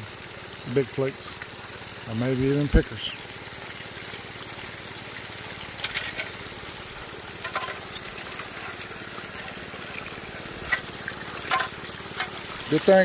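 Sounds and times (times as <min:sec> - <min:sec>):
water gushing from hose: 0:00.0 - 0:13.0.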